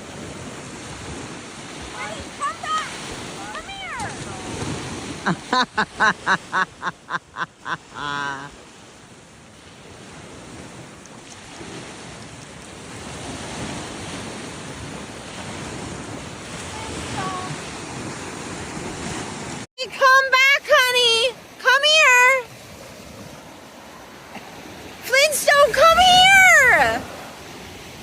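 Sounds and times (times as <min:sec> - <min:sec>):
small waves washing on beach: 0:00.0 - 0:28.0.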